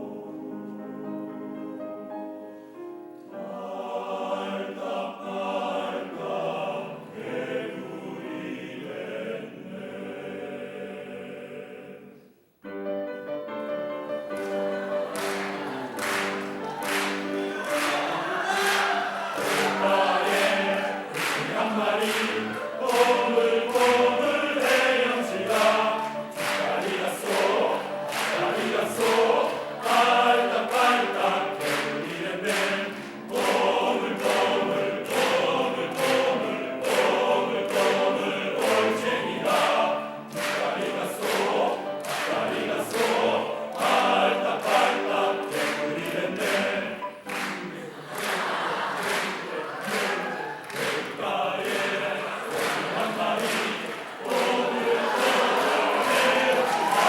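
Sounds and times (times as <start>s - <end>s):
choir singing children's song: 0.0s - 1.6s, 3.2s - 12.4s, 14.2s - 57.0s
piano accompaniment: 0.0s - 9.8s, 12.6s - 57.0s.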